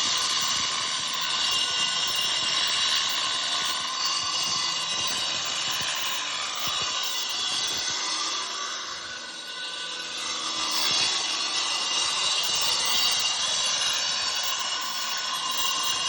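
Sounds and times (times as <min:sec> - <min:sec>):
power tool motor whining: 0:00.0 - 0:16.0.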